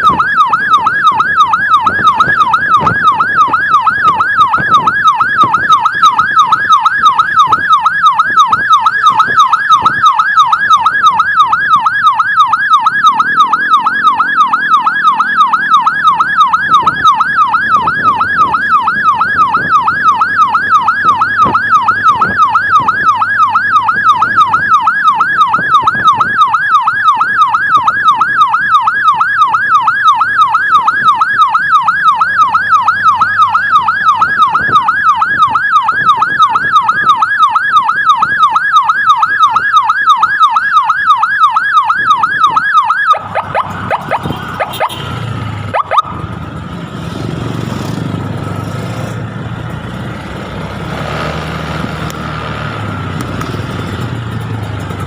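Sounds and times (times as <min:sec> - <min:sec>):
electronic siren yelping: 0:00.0 - 0:48.2.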